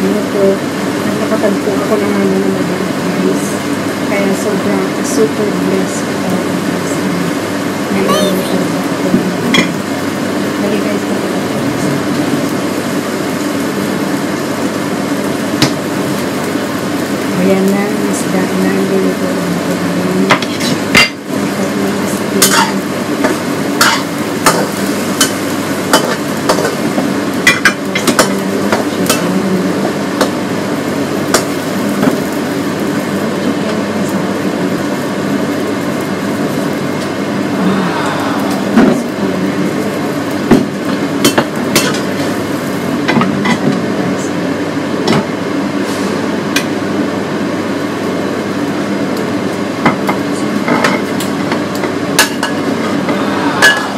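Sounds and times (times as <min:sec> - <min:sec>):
food sizzling in a wok: 0:00.0 - 0:53.9
steady hum: 0:00.0 - 0:53.9.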